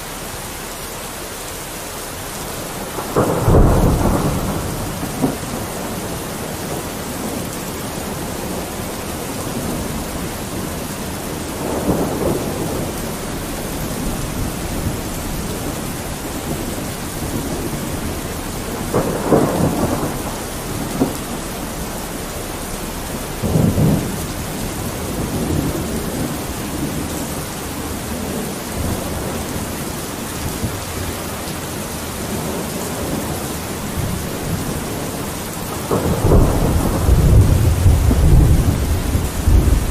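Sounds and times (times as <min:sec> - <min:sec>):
rain pattering on window: 0:00.0 - 0:39.9.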